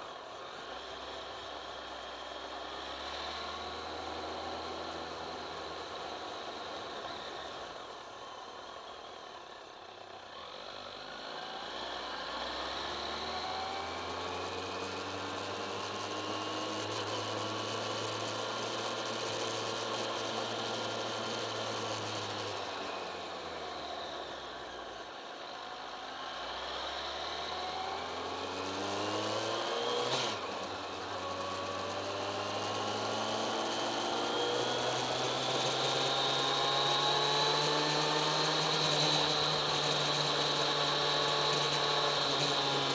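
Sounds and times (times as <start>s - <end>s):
motorcycle engine accelerating: 0.4s - 42.9s.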